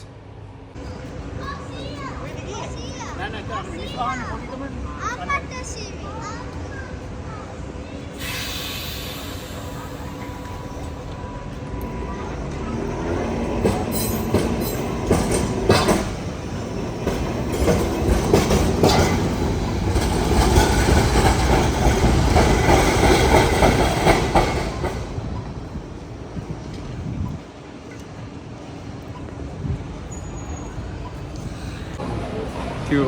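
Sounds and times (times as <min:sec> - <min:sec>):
tram running rumble: 0:00.0 - 0:33.0
tram wheels clacking over rail joints: 0:00.8 - 0:33.0.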